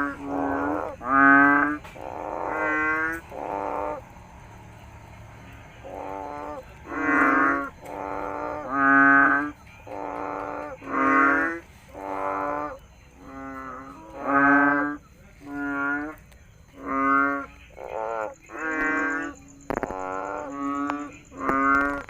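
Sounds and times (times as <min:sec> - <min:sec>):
frogs croaking: 0:00.0 - 0:22.0.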